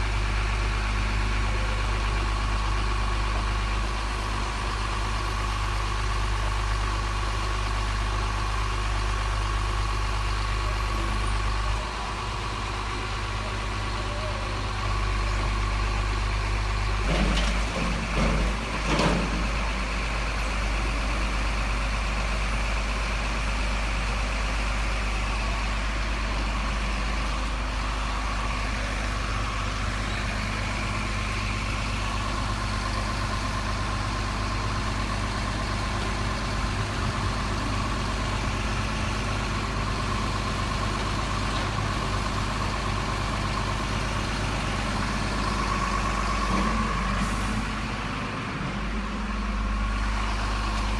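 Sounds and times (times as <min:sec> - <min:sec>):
diesel truck engine idling: 0:00.0 - 0:50.9.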